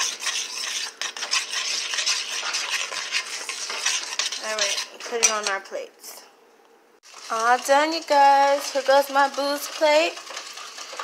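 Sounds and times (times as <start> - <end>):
utensil scraping metal pot: 0.0 - 5.7, 7.0 - 11.0.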